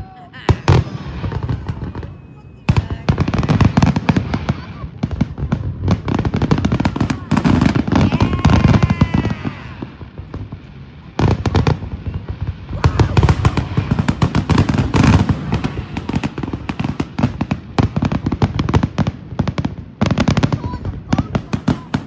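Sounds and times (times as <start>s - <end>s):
fireworks booms and crackling: 0.0s - 22.0s.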